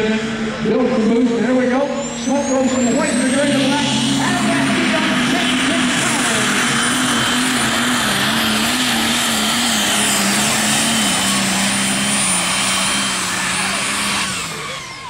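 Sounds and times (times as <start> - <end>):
diesel tractor engine at full load: 0.0 - 15.0
turbocharger whine: 0.0 - 15.0.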